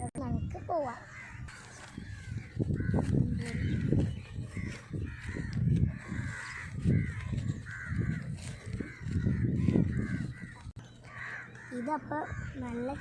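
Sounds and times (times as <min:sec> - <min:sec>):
crows cawing: 0:00.7 - 0:13.0.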